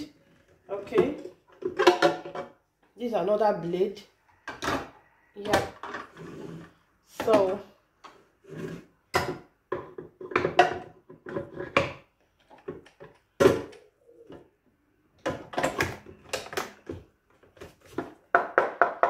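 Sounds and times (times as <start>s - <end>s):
plastic blender parts clattering: 0.1s - 2.6s, 4.4s - 14.5s, 15.2s - 19.0s.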